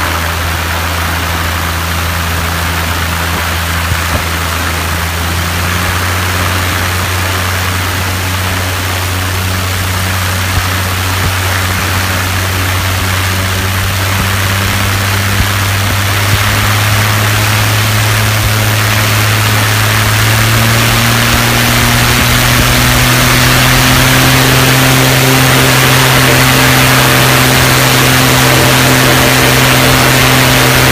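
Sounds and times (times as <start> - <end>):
light aircraft engine running: 0.0 - 30.9.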